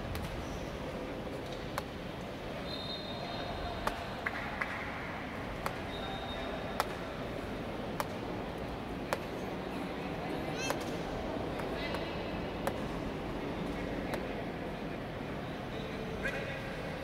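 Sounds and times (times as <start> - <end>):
crowd murmur: 0.8 - 17.0.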